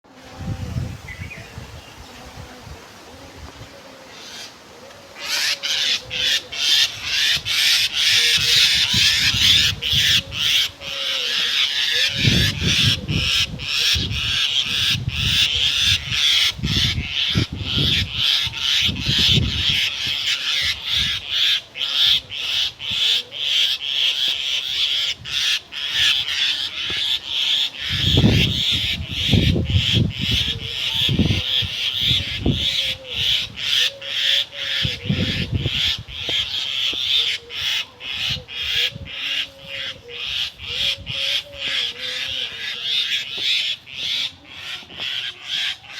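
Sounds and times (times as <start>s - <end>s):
birds calling: 1.0s - 45.9s.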